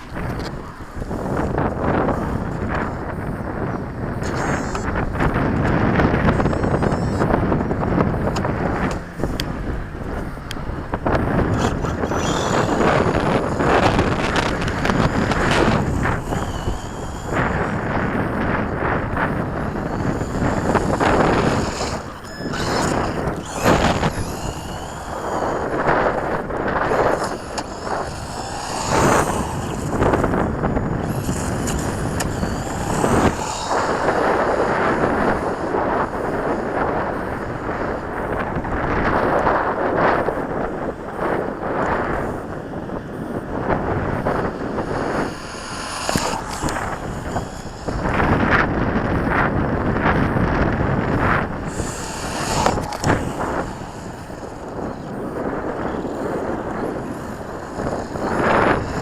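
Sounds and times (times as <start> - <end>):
electric rc truck motor whine: 0.0 - 59.0
wind buffeting microphone: 0.0 - 59.0.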